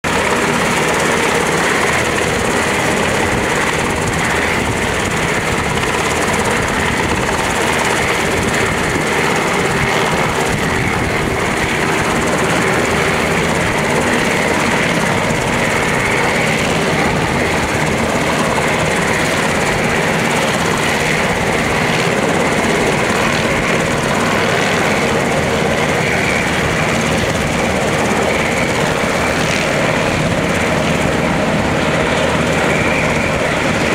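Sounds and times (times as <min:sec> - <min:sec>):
helicopter rotor beat: 0:00.0 - 0:33.9
helicopter turbine whine: 0:00.0 - 0:33.9.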